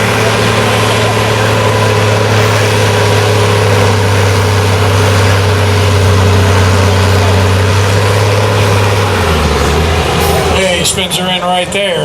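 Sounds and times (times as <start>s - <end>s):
diesel tractor engine at full throttle: 0.0s - 12.0s.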